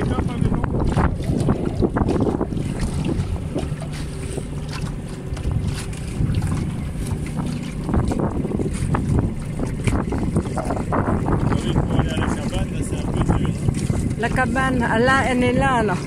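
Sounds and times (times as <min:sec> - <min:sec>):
water slapping against hull: 0:00.0 - 0:16.0
wind buffeting microphone: 0:00.0 - 0:16.0.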